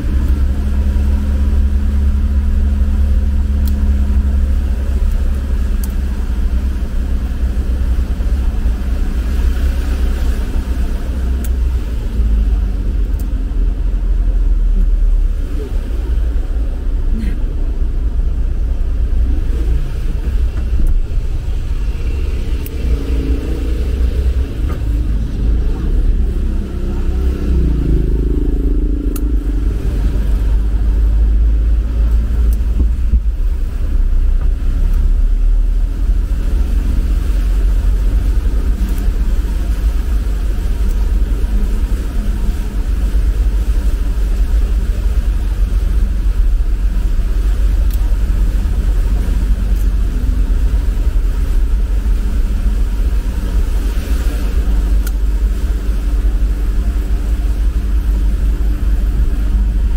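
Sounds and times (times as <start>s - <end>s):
truck driving through water: 0.0s - 59.9s.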